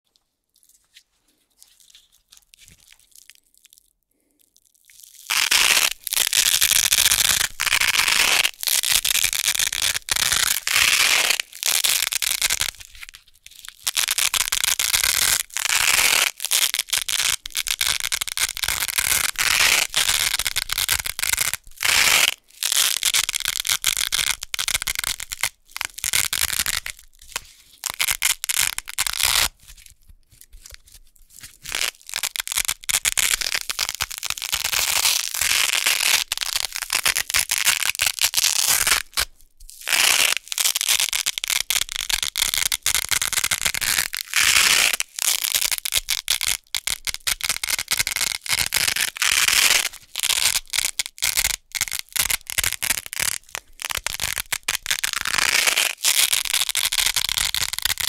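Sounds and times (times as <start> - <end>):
velcro tape ripping apart: 4.9 - 58.0.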